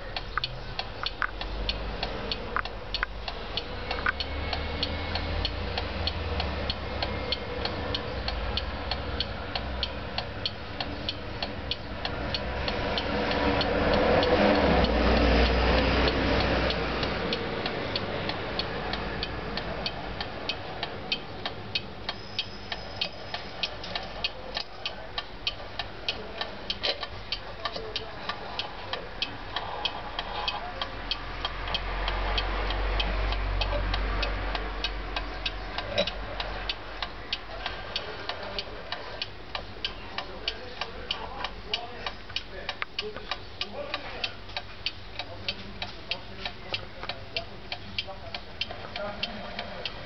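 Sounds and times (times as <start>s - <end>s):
alarm clock ticking: 0.1s - 50.0s.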